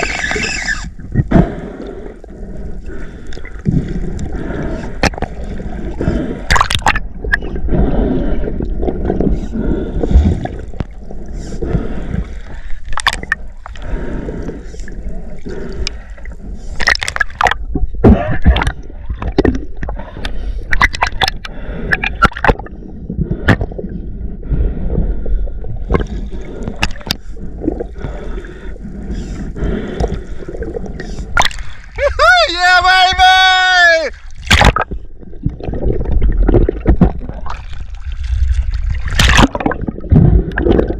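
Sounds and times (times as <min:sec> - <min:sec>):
underwater gurgling rumble: 0:00.0 - 0:32.2, 0:34.1 - 0:40.9.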